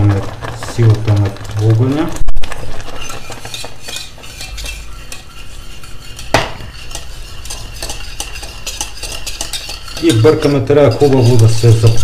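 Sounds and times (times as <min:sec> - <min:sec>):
whisk scraping a metal saucepan: 0:00.0 - 0:12.0.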